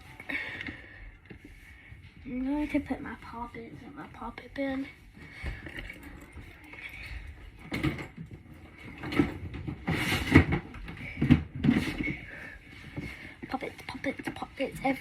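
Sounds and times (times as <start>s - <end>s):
rustling and handling toys: 0.0s - 15.0s.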